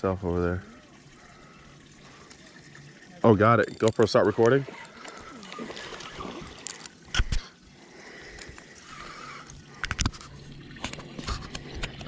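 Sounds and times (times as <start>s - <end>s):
water sloshing around a boat: 0.0s - 12.0s.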